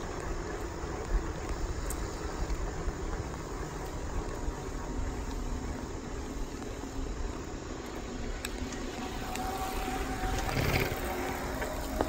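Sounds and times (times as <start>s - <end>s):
cyclists passing: 0.0s - 12.0s
wind buffeting microphone: 0.0s - 12.0s.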